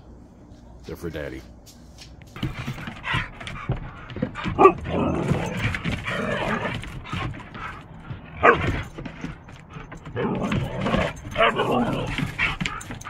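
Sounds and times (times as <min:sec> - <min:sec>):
dogs barking and yipping: 0:02.4 - 0:13.0.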